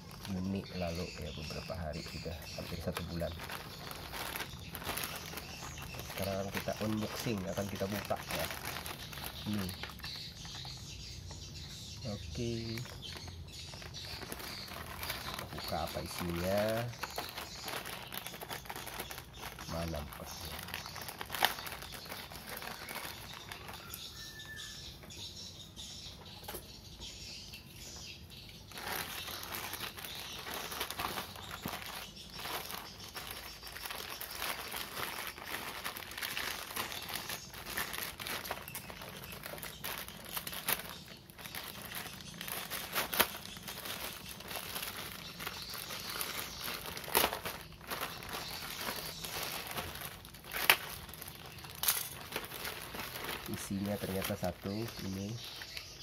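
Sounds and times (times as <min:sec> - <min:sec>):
plastic bag crinkling: 0:00.0 - 0:11.0, 0:12.0 - 0:24.7, 0:28.7 - 0:56.0.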